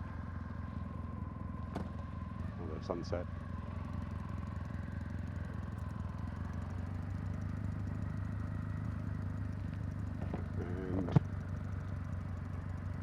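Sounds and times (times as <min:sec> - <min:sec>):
motorcycle engine and exhaust: 0:00.0 - 0:13.0.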